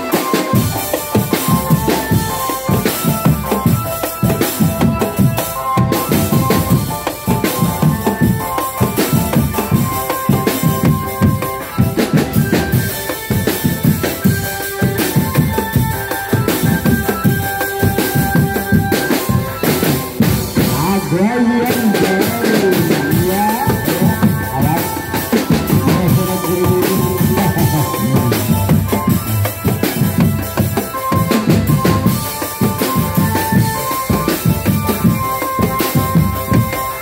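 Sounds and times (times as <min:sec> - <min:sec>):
held high melody notes: 0:00.0 - 0:37.0.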